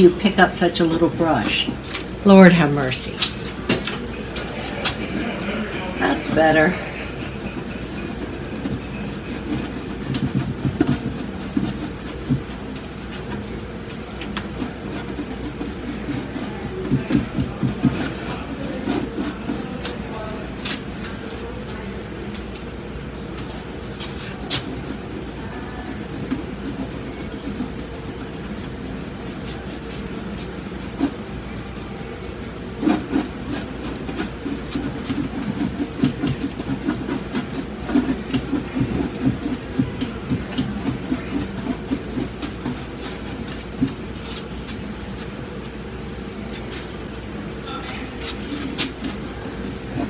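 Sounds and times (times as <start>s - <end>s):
low background hum: 0.0s - 50.0s
paintbrush strokes: 3.4s - 21.8s, 23.5s - 44.8s, 48.1s - 50.0s.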